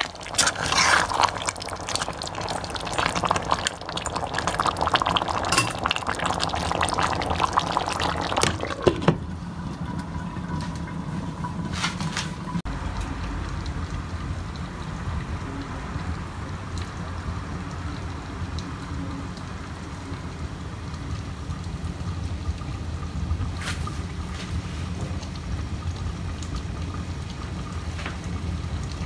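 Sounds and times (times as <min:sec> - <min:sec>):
curry bubbling and sizzling: 0:00.0 - 0:29.0.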